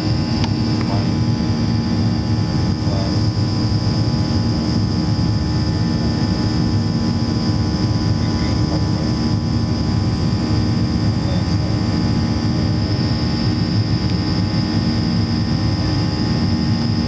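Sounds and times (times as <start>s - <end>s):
high whine: 0.0s - 17.0s
jet engine drone in cabin: 0.0s - 17.0s.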